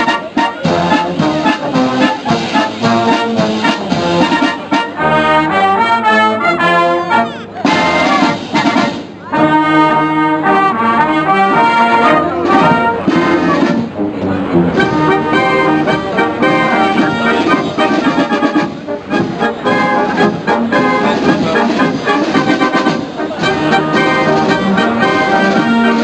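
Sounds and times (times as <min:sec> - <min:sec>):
military wind band playing: 0:00.0 - 0:26.0.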